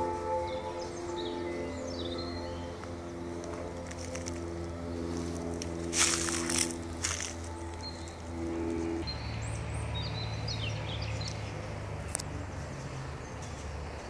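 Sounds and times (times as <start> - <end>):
low hum: 0.0 - 13.8
birds chirping: 0.0 - 14.0.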